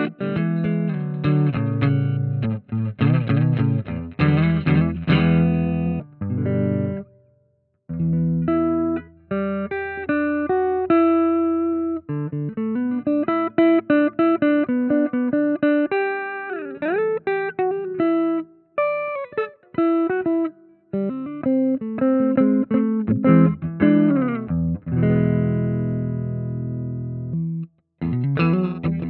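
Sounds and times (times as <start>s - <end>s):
clean electric guitar playing: 0.0s - 7.2s, 7.9s - 29.0s.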